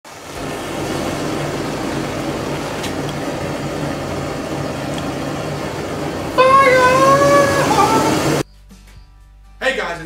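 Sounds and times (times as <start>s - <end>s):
burner flame rushing: 0.1s - 8.4s
low hum: 0.3s - 8.4s.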